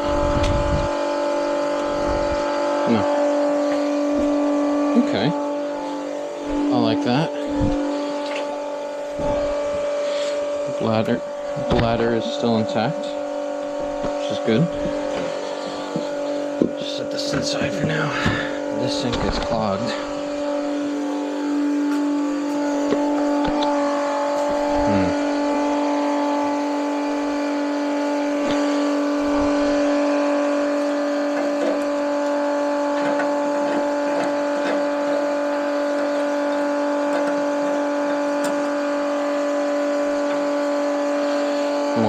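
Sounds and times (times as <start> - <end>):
small electric motor humming: 0.0 - 42.0.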